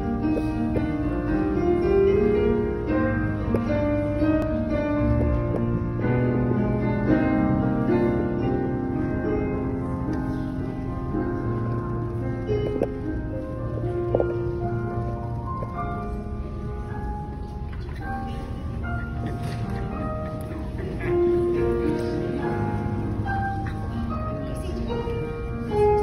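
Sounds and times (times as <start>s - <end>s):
slow piano processional music: 0.0s - 26.0s.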